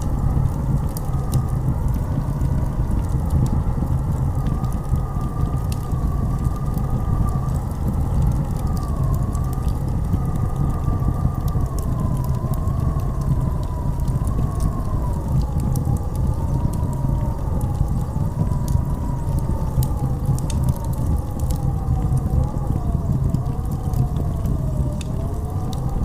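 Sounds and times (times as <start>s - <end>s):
blizzard wind howling: 0.0s - 26.0s
faint crackles: 0.0s - 26.0s.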